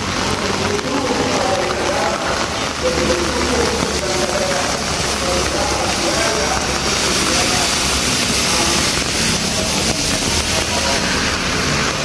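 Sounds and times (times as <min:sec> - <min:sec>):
faint voices: 0:00.0 - 0:12.0
heavy rain on pavement: 0:00.0 - 0:12.0
passing traffic hum: 0:00.0 - 0:12.0.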